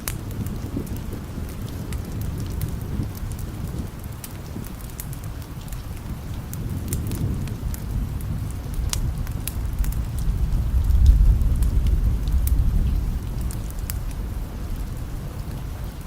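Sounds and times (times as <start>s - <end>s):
low thunder rumble: 0.0s - 16.0s
sharp drip ticks: 0.0s - 16.0s
steady rain: 0.0s - 16.0s.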